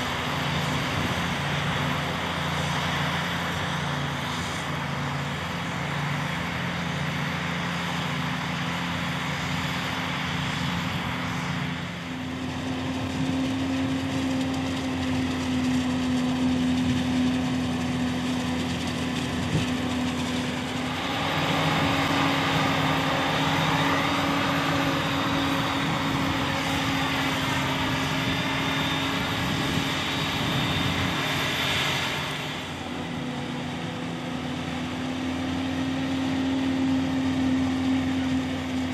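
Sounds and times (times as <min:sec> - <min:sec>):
harvester engine drone: 0:00.0 - 0:38.9
tractor running: 0:00.0 - 0:38.9.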